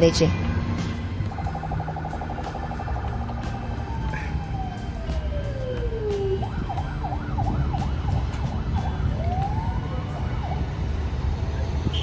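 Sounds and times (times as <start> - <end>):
street traffic rumble: 0.0 - 12.0
emergency vehicle siren: 1.0 - 12.0.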